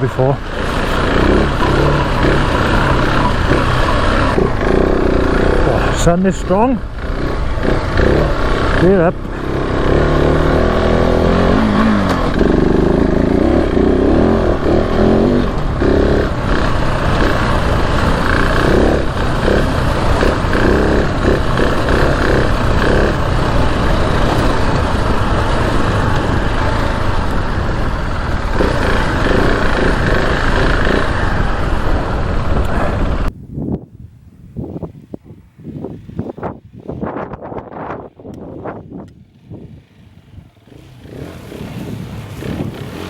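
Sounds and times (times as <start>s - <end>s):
motorcycle engine revving: 0.0s - 33.3s, 35.7s - 43.0s.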